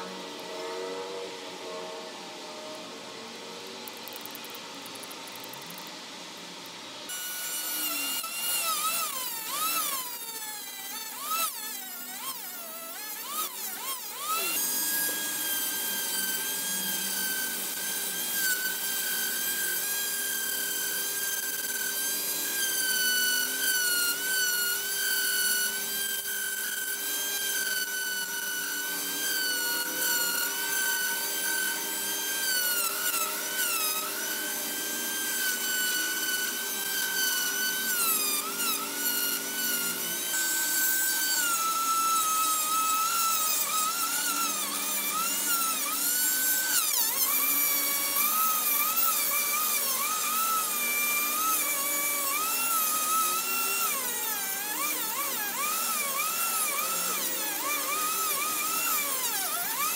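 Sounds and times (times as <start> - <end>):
rotary tool whining: 0.0 - 59.9
abrasive bit grinding on metal: 7.1 - 59.9.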